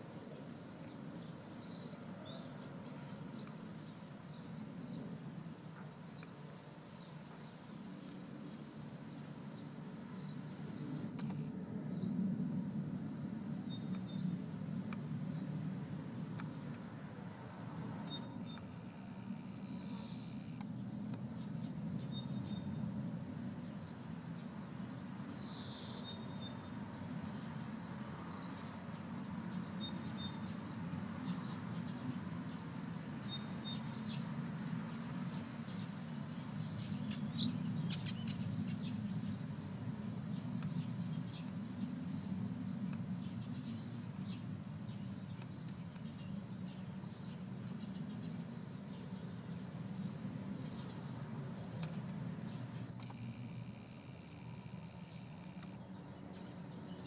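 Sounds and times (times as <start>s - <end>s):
bird chirping: 0.8s - 12.2s, 13.2s - 15.7s, 17.7s - 23.0s, 23.6s - 34.3s, 34.9s - 39.6s, 40.2s - 57.0s.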